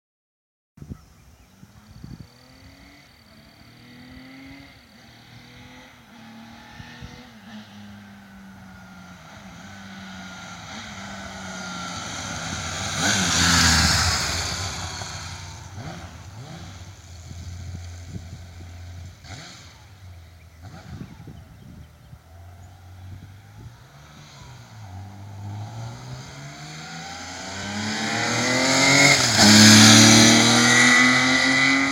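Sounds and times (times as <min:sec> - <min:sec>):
motorcycle engine passing by: 0:01.6 - 0:31.9.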